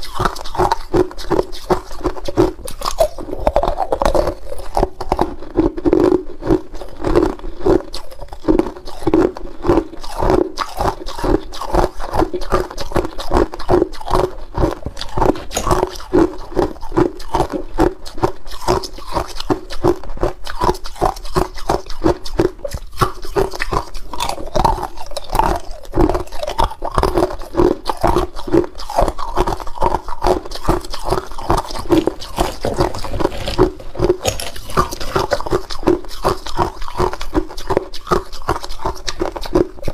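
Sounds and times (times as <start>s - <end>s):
ice cubes crunched by teeth: 0.0s - 39.9s.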